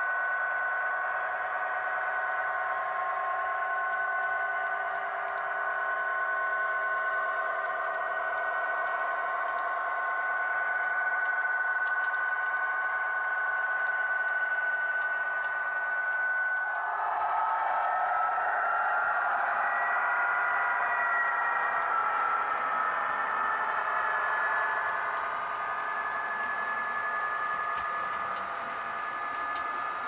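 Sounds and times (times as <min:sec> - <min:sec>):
model train motor whine: 0:00.3 - 0:30.0.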